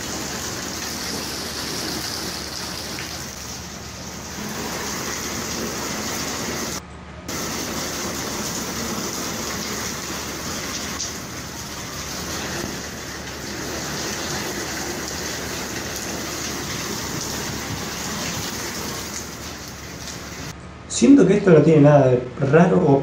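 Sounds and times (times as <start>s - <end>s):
steady rain pouring: 0.0s - 20.5s.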